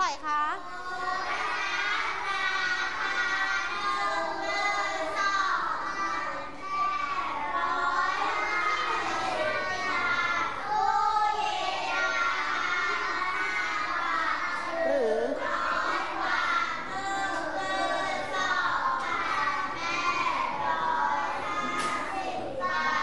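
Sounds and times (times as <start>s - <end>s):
children reading aloud in unison: 0.0s - 23.0s.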